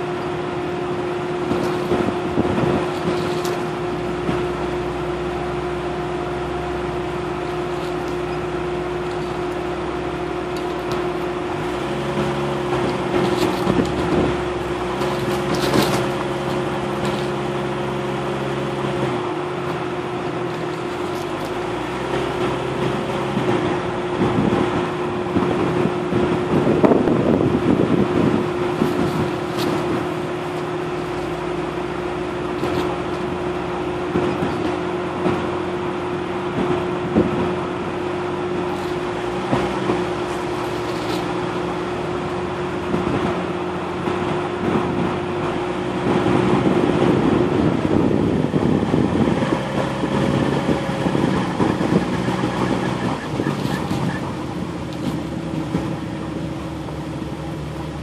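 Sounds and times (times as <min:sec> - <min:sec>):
vehicle knocks and rattles: 0:00.0 - 0:04.8, 0:07.2 - 0:58.0
vehicle engine humming: 0:00.0 - 0:58.0.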